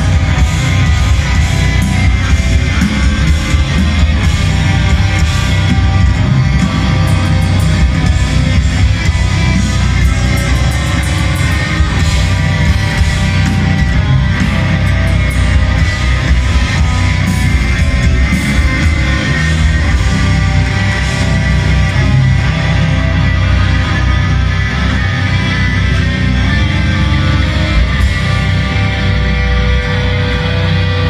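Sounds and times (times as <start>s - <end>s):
metal band playing: 0.0s - 31.0s.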